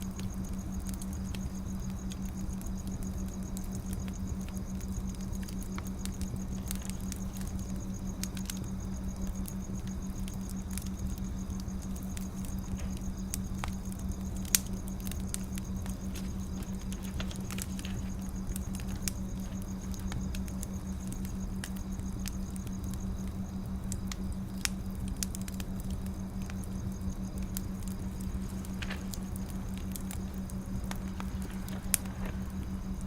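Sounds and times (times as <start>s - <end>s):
steady low hum: 0.0s - 33.0s
wood fire crackling: 0.0s - 33.0s.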